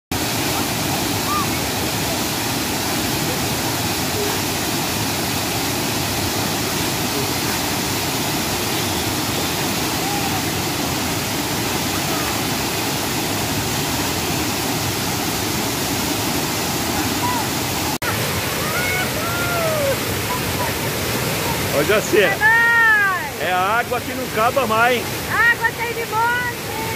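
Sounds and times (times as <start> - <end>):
waterfall rushing: 0.1 - 26.9.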